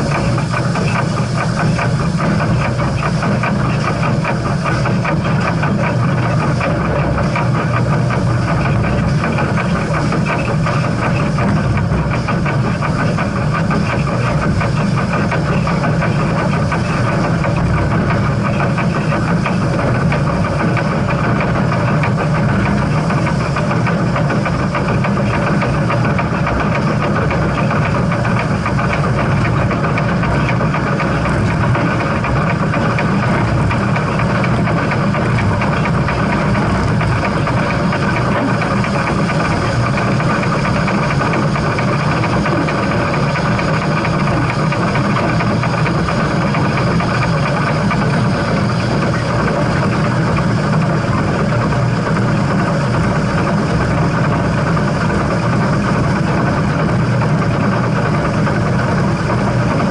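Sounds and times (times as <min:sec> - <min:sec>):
steam train rumbling: 0:00.0 - 0:59.9.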